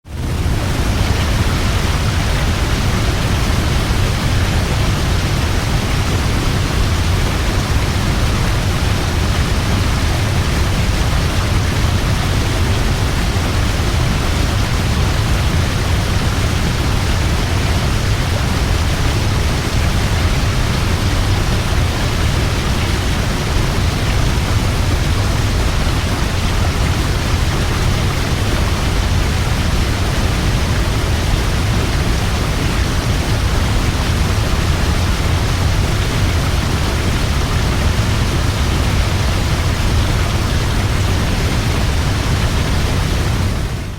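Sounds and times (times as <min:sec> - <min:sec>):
waterfall rushing and rumbling: 0:00.0 - 0:43.9.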